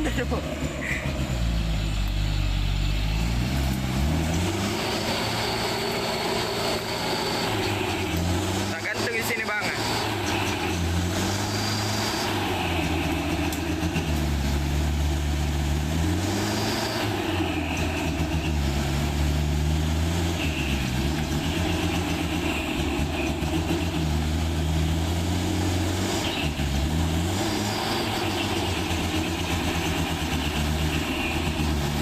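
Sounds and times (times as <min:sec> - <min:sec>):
heavy truck engine under load: 0:00.0 - 0:32.0.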